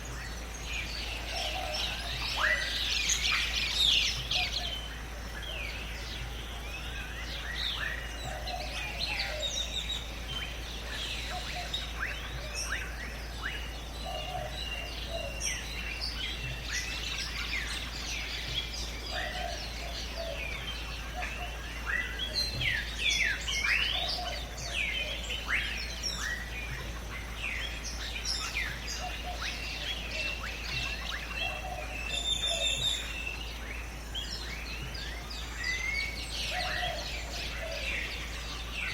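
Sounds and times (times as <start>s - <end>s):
birds calling and chirping: 0.0s - 38.9s
lower bird call: 0.0s - 38.9s.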